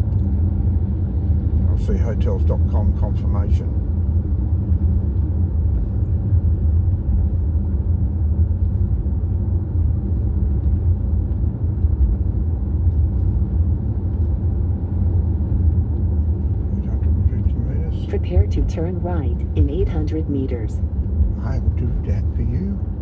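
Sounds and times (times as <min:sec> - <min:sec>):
vehicle engine rumble: 0:00.0 - 0:23.0.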